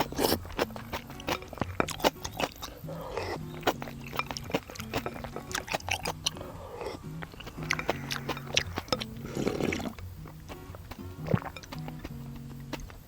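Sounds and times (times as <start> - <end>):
noodles slurped and chewed: 0.0 - 12.8
background music with bass line: 0.0 - 13.0.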